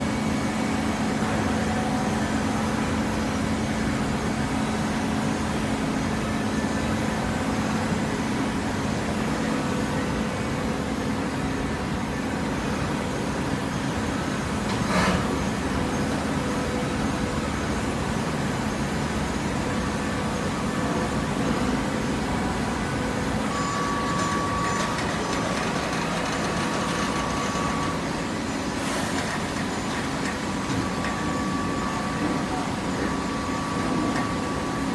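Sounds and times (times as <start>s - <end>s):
baler mechanical hum: 0.0s - 34.9s.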